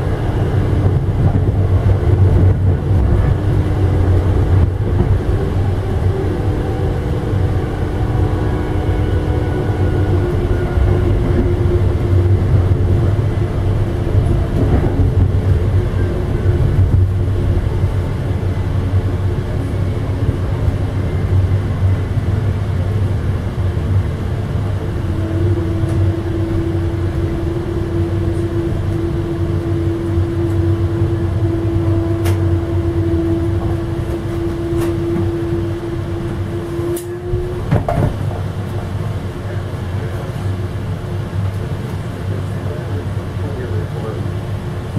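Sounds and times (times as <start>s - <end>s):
steady humming tone: 0.0s - 41.7s
train rolling on track: 0.0s - 44.9s.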